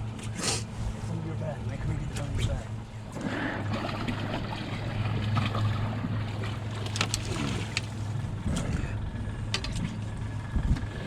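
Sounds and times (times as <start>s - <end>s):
boat motor humming: 1.6s - 11.0s.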